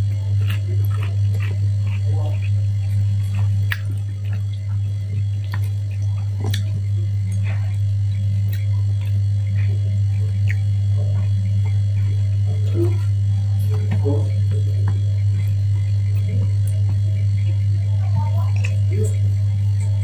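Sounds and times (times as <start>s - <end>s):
loud steady low hum: 0.0s - 20.0s
person chewing with mouth clicks: 0.0s - 20.0s.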